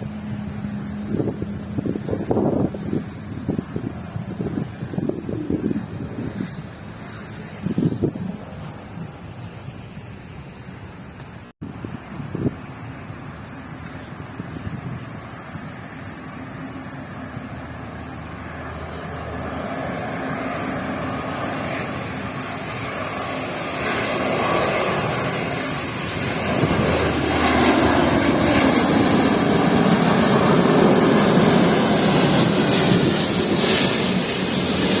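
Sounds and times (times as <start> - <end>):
airliner engine rush overhead: 0.0 - 35.0.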